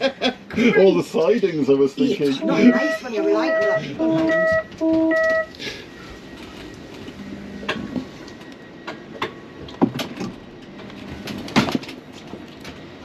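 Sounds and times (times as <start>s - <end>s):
train carriage running rumble: 0.0s - 13.0s.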